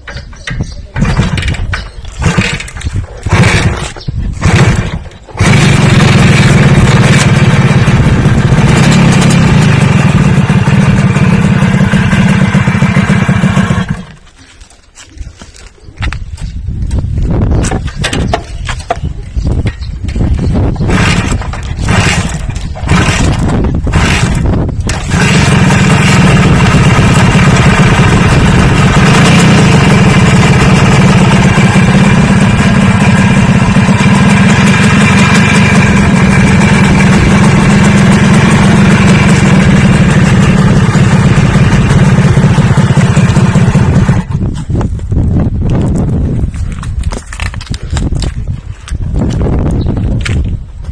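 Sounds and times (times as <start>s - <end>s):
motor engine running loudly: 1.0s - 14.2s, 19.6s - 48.4s.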